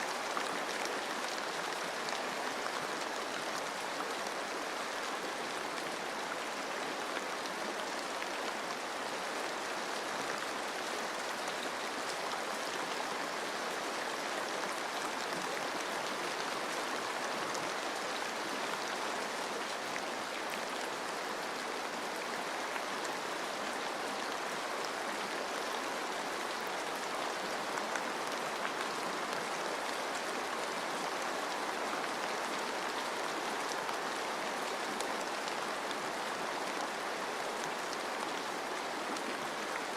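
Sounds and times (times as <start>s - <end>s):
rain on foliage: 0.0s - 39.9s
running water rushing: 0.0s - 39.9s.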